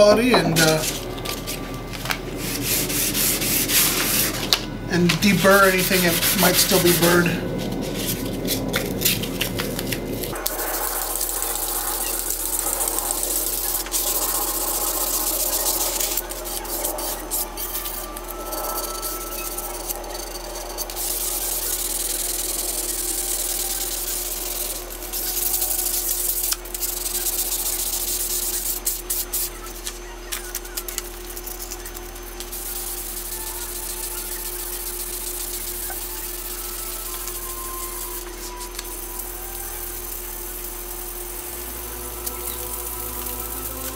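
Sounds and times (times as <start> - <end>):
steady low hum: 0.0 - 43.9
sandpaper rubbing on metal: 2.4 - 4.4, 5.2 - 43.9.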